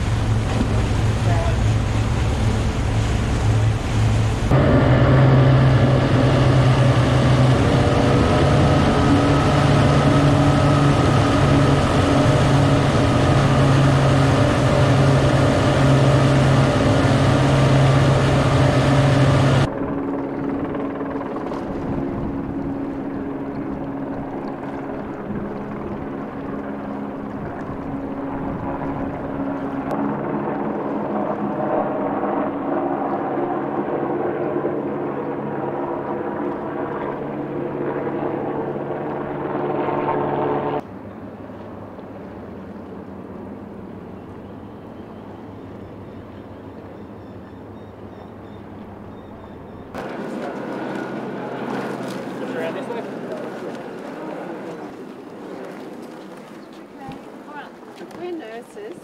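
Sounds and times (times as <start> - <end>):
rush of wake and wind: 0.0 - 48.0, 48.7 - 59.0
boat engine drone: 0.0 - 59.0
distant engine hum: 0.0 - 59.0.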